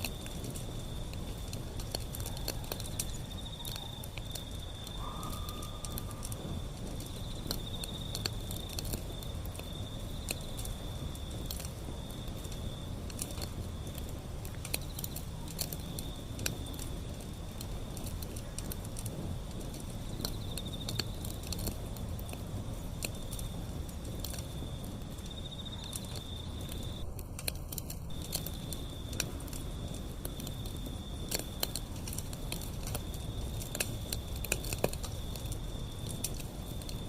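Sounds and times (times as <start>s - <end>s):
burning wood crackling and popping: 0.0s - 37.0s
fire flame rumble: 0.0s - 37.0s.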